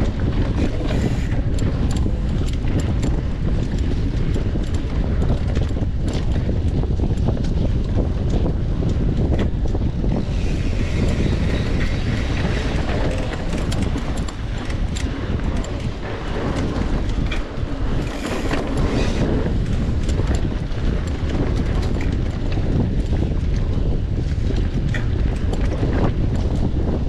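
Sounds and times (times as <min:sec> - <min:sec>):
bike rattling clicks: 0:00.0 - 0:27.0
bike tyre rumble on dirt: 0:00.0 - 0:27.0
wind rush on microphone: 0:00.0 - 0:27.0.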